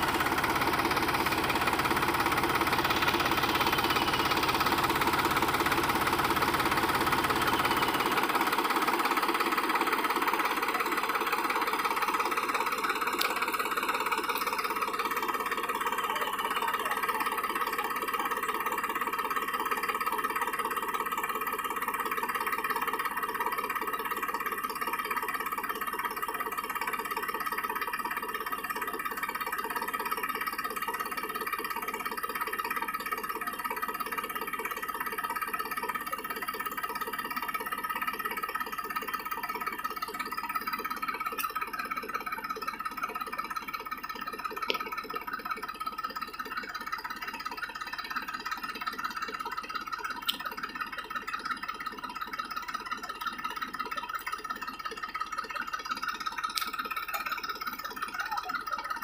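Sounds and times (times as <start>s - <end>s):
tractor diesel engine straining: 0.0s - 59.0s.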